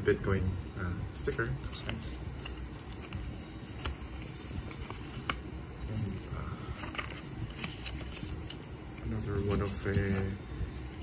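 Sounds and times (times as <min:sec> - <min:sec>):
paper rustling: 0:01.3 - 0:11.0.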